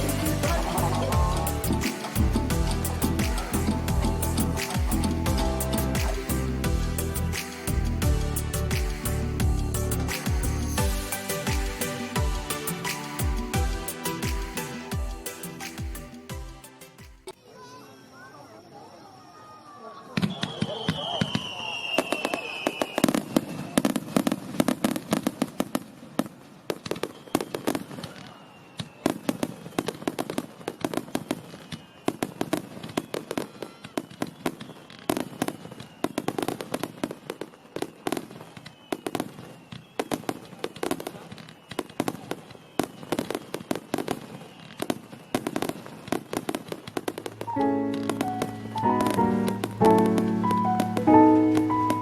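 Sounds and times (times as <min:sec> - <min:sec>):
fireworks crackling and popping: 0:00.0 - 0:18.7, 0:20.0 - 0:52.0.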